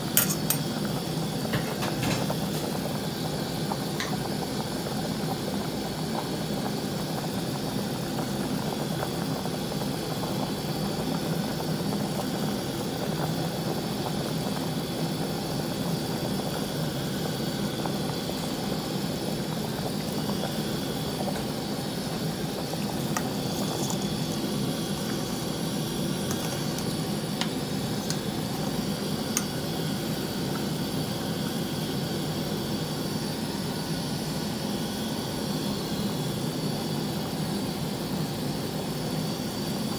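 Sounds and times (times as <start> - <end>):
broth boiling and bubbling: 0.0 - 39.9.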